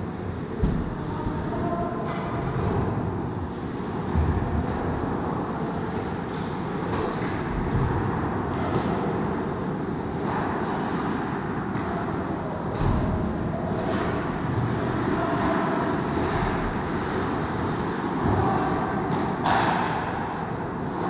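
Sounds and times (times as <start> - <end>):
ice rink rumbling: 0.0 - 21.0.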